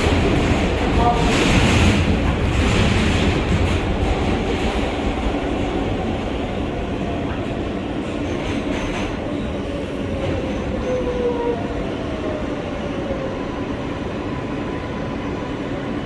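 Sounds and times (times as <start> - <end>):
subway train wheels rumbling: 0.0 - 16.0.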